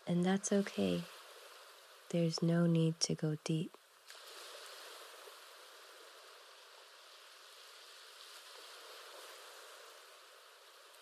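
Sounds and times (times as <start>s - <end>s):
soft ocean surf: 0.0s - 11.0s.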